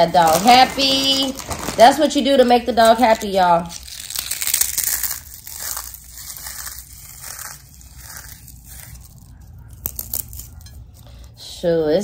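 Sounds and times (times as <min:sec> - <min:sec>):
potato chips crunching and crackling: 0:00.0 - 0:11.4.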